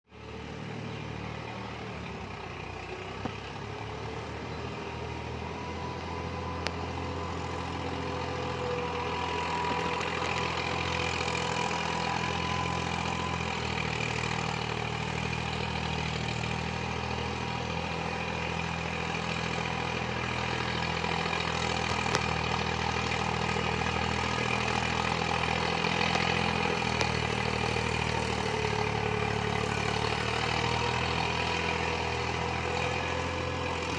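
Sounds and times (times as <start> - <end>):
engine humming: 0.1 - 33.9.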